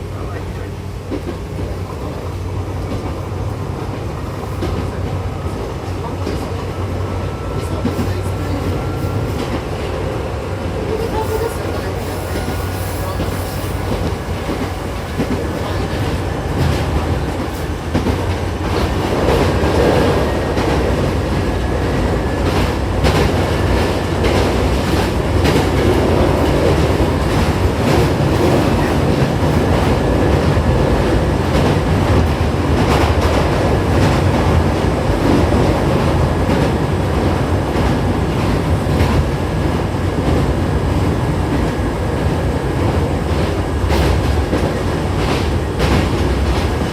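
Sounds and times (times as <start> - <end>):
train running rumble: 0.0 - 46.9.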